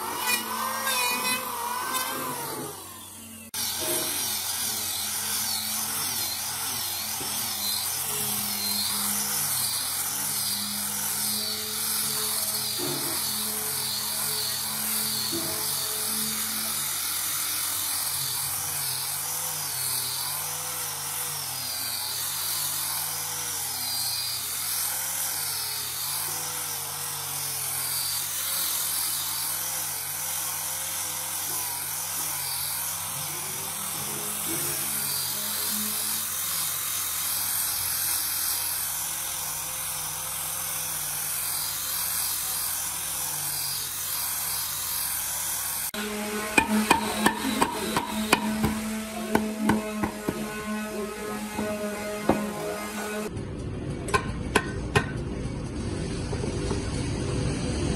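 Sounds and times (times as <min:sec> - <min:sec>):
angle grinder sanding wood: 0:00.0 - 0:53.3.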